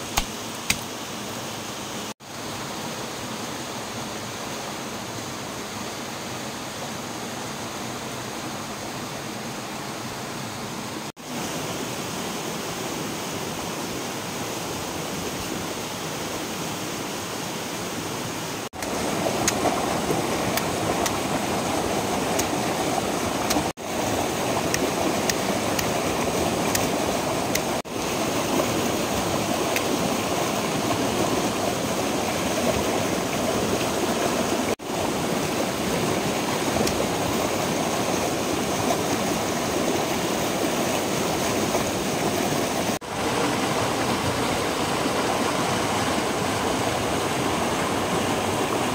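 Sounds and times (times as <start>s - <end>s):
river rushing over rocks: 4.0s - 48.9s.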